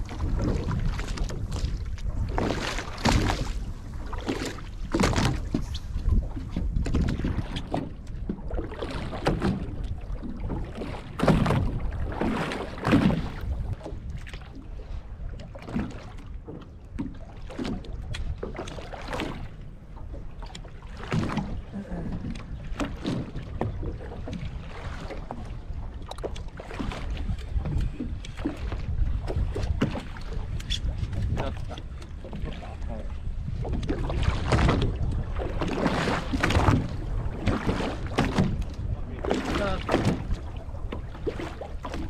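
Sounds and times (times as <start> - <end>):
wind buffeting microphone: 0.0 - 15.4, 21.2 - 42.0
water slapping against boat hull: 0.0 - 42.0.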